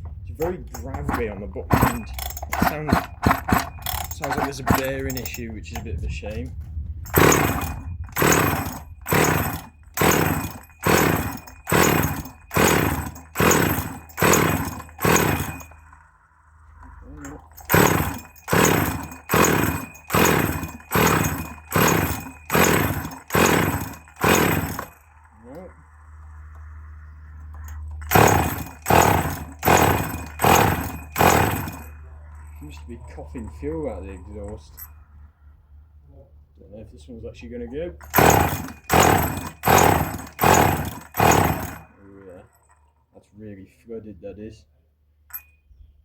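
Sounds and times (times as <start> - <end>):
chainsaw recoil starter pulls: 0.0 - 16.0, 16.7 - 25.7, 27.5 - 34.8, 38.0 - 42.8.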